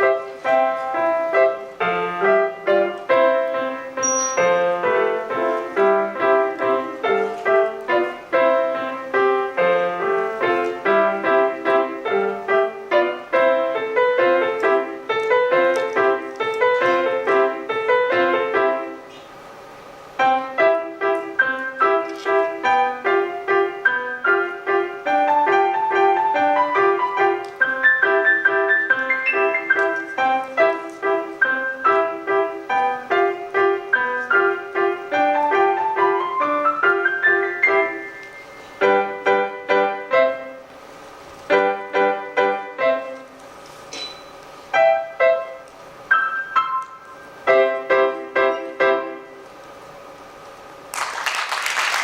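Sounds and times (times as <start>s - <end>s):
solo piano piece: 0.0s - 50.9s.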